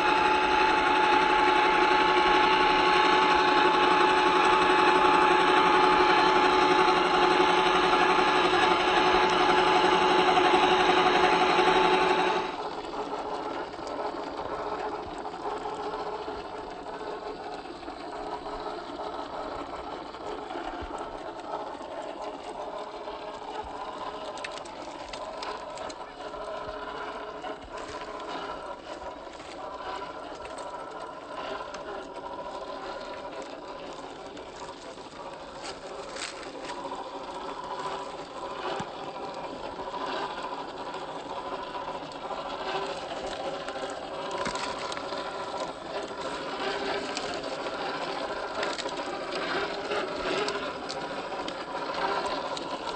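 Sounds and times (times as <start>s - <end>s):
toy car electric motor whirring: 0.0s - 52.9s.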